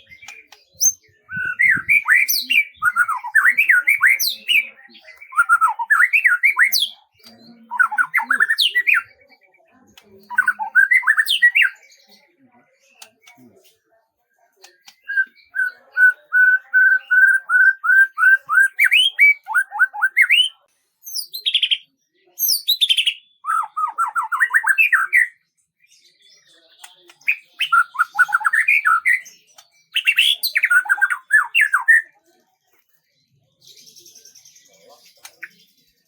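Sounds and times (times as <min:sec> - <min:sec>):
songbird singing: 0:00.0 - 0:32.2.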